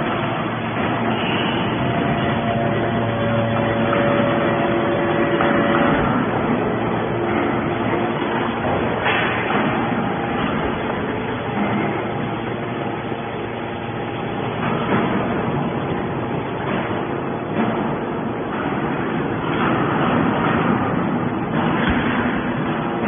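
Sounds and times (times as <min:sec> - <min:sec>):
hydraulic pump hum: 0:00.0 - 0:23.0
mechanical noise: 0:00.0 - 0:23.0.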